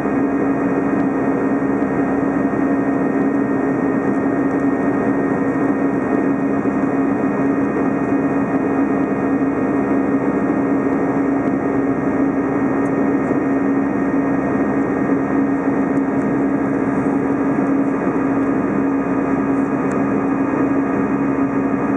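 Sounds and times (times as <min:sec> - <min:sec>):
jet engine and airflow drone: 0:00.0 - 0:21.9.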